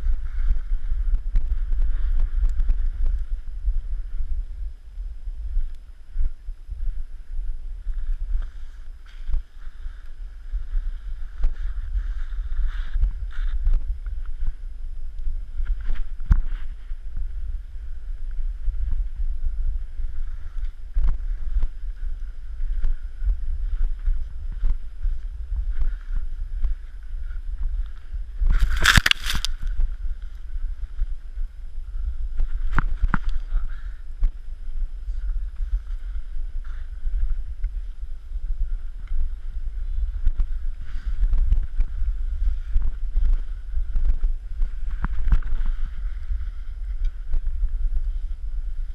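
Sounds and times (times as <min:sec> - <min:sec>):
wind rumble on microphone: 0:00.0 - 0:48.9.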